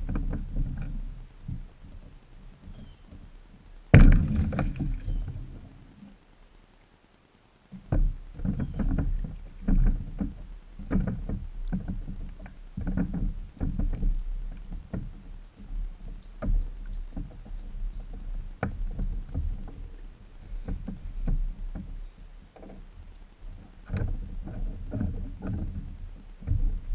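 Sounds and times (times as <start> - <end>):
wooden knocks and clunks: 0.0 - 5.8, 7.7 - 26.9.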